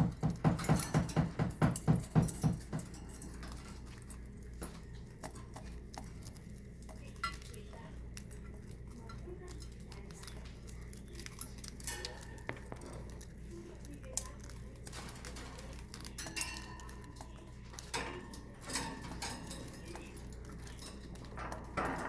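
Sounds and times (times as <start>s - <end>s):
beak picking at food: 0.0s - 22.0s.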